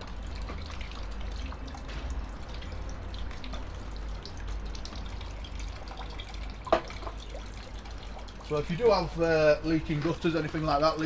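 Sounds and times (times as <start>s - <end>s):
small splashing drips: 0.0s - 11.0s
water trickling: 0.0s - 11.0s.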